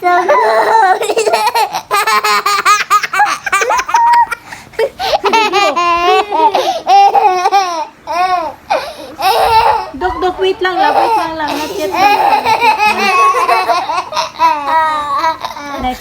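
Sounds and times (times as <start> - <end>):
child laughing: 0.1 - 16.0.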